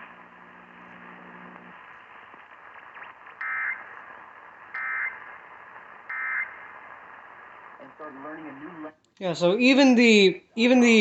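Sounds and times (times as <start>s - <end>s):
faint radio hiss: 0.0s - 11.0s.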